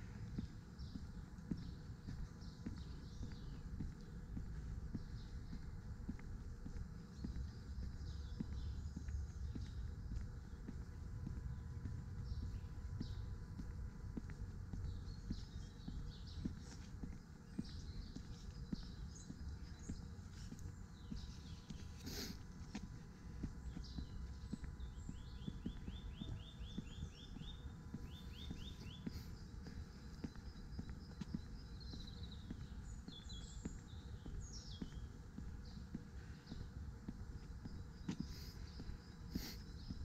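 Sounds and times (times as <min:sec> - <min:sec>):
footsteps walking: 0:00.0 - 0:40.0
songbird singing: 0:00.0 - 0:40.0.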